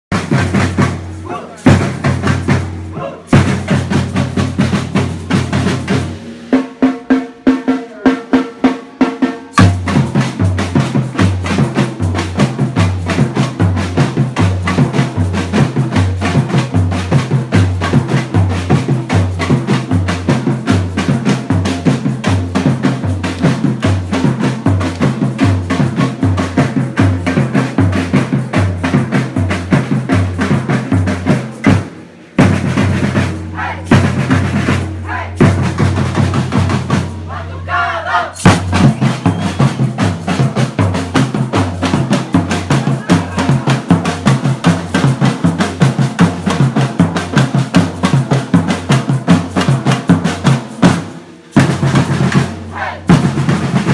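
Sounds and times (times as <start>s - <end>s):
bass drums: 0.1s - 7.5s, 9.5s - 53.9s
samba percussion drums: 0.1s - 53.9s
snare drums: 0.1s - 53.9s.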